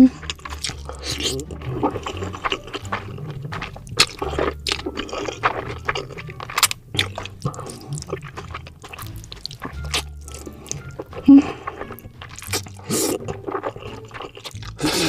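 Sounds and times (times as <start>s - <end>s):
mouth smacking and squishing: 0.0s - 15.0s
wet chewing of noodles: 0.0s - 15.0s.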